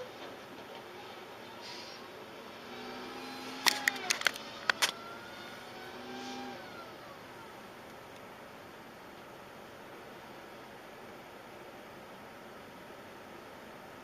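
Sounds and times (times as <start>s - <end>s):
road vehicles: 0.0s - 14.0s.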